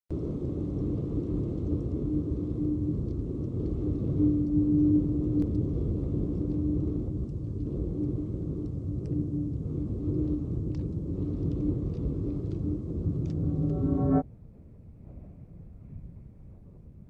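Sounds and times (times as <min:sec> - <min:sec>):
deep steady rumble: 0:00.1 - 0:15.6
faint humming tone: 0:00.2 - 0:14.2.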